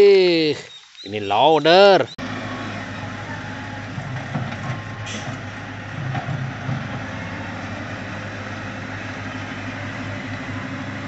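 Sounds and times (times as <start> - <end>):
diesel engine running: 2.1 - 11.0.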